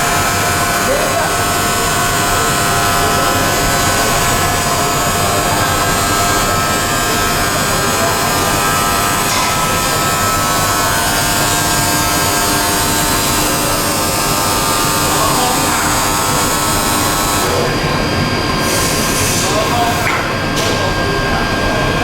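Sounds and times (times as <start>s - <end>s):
machinery motor whine: 0.0s - 22.0s.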